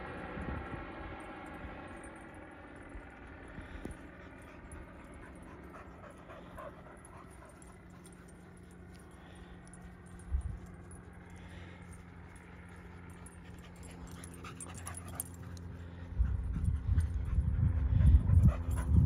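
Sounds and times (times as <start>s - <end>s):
distant paramotor engine drone: 0.0s - 19.0s.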